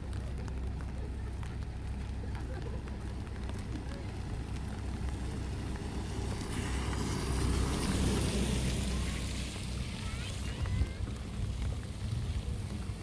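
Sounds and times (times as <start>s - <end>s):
street traffic rumble: 0.0s - 13.0s
tyres hissing on wet road: 1.7s - 13.0s.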